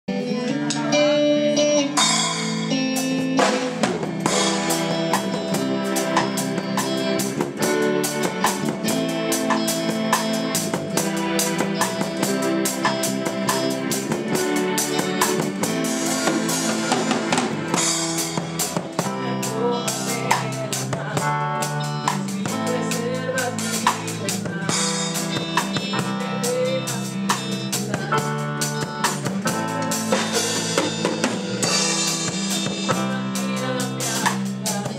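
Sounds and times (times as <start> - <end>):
guitar: 0.0 - 34.9
drum kit beat: 0.1 - 34.9.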